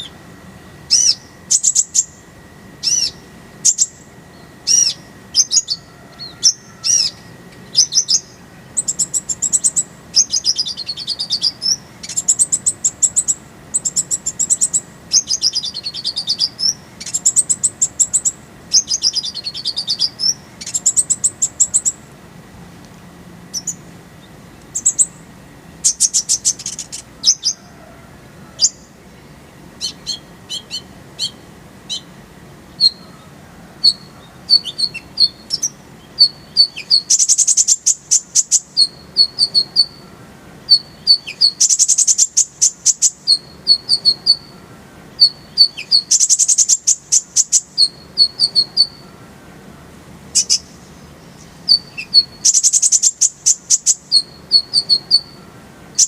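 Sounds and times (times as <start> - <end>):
faint steady high hum: 0.0 - 56.0
sunbird singing chirps and trills: 0.0 - 56.0.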